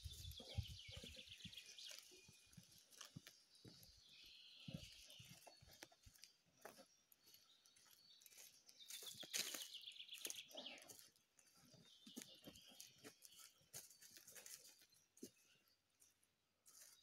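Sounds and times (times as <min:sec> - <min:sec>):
birds singing: 0:00.0 - 0:17.0
footsteps on dirt path: 0:00.0 - 0:17.0.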